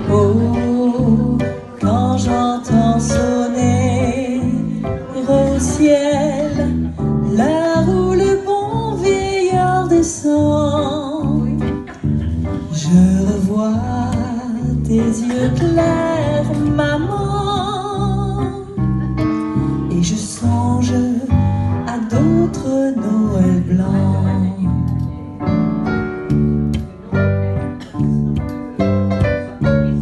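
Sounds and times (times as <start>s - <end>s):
woman singing into a microphone: 0.0s - 19.0s, 19.8s - 25.2s
electric bass guitar: 0.0s - 30.0s.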